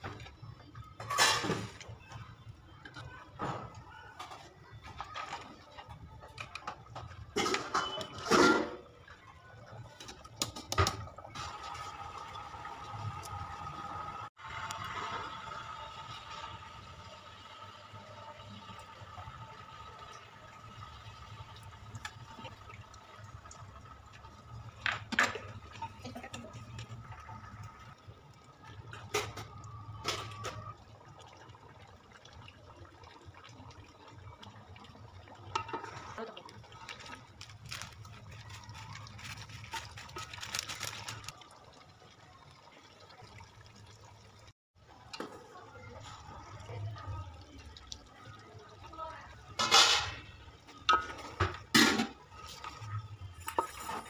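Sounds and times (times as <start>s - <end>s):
water pouring into steel pot: 0.0s - 54.0s.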